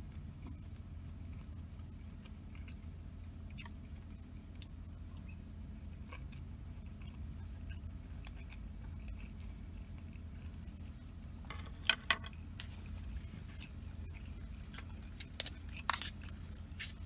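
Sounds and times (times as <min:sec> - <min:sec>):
faint eating sounds: 0:00.0 - 0:17.0
low hum in truck cab: 0:00.0 - 0:17.0.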